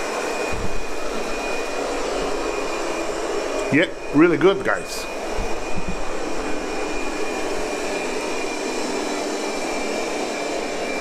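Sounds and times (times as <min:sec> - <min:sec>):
robot vacuum fan humming: 0:00.0 - 0:11.0.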